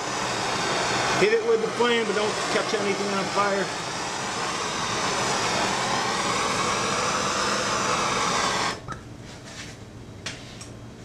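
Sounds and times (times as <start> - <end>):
gas torch hissing: 0.0 - 8.9.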